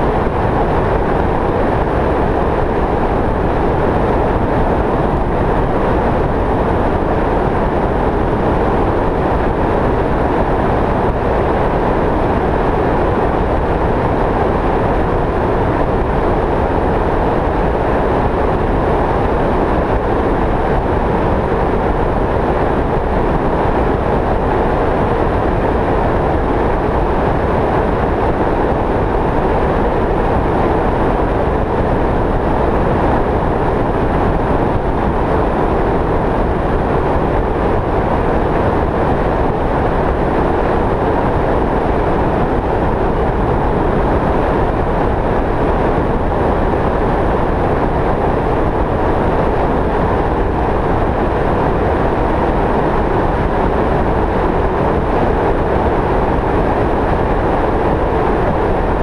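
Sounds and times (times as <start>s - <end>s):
road and wind noise of driving: 0.0s - 59.0s.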